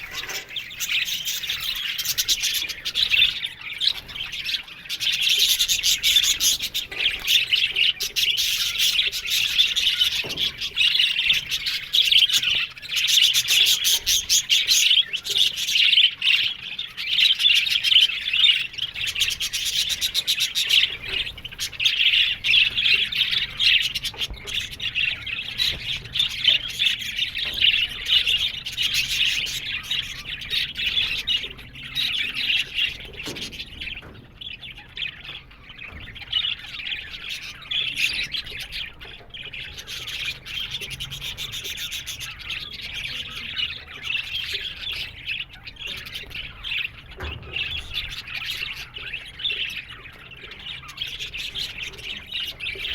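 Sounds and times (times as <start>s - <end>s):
budgerigars warbling and chattering: 0.0s - 52.9s.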